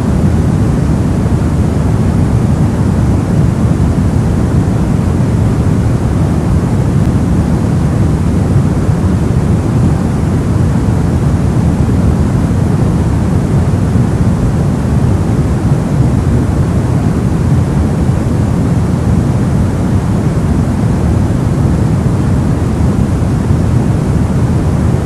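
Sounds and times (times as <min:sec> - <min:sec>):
deep white noise hiss: 0:00.0 - 0:25.0.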